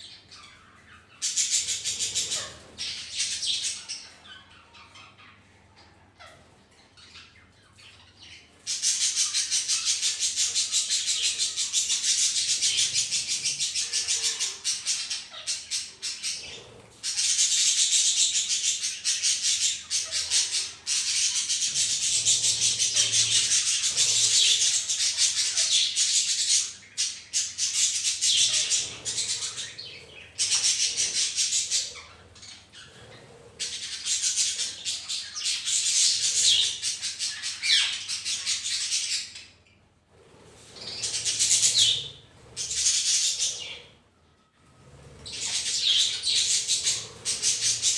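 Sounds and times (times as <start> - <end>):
budgerigars chattering: 0.0 - 5.4, 7.0 - 39.4, 40.7 - 43.9, 45.2 - 47.9.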